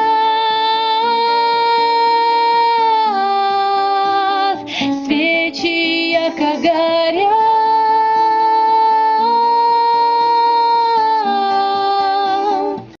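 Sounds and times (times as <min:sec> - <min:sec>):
soft musical accompaniment: 0:00.0 - 0:13.0.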